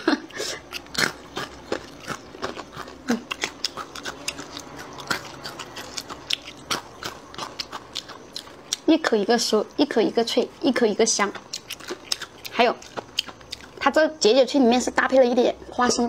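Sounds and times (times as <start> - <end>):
crunching and chewing: 0.0 - 15.1.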